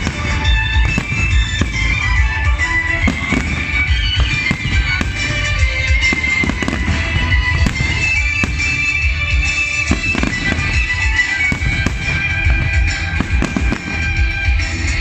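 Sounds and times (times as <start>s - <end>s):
fireworks booming and cracking: 0.0s - 15.0s
music playing: 0.0s - 15.0s.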